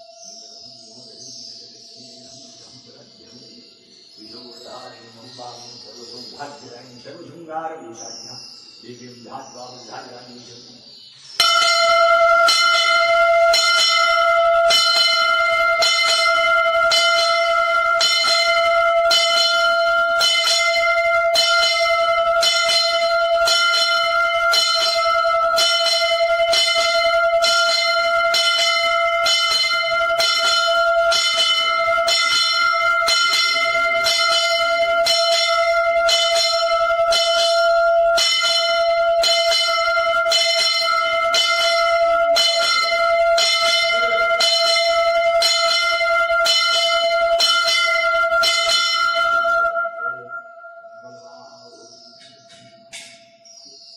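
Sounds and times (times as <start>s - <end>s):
bell ringing: 0.0s - 7.4s, 11.4s - 53.9s.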